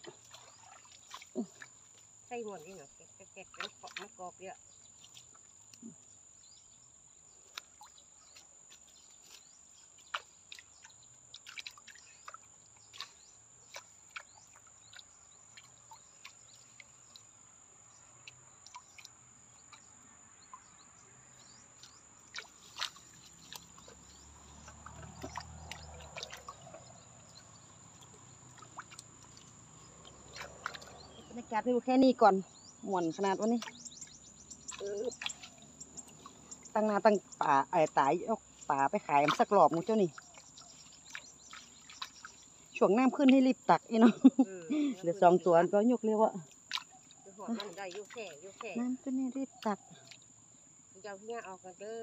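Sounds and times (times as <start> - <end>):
short drips and taps: 0.0 - 6.0, 7.5 - 20.8, 21.4 - 50.3.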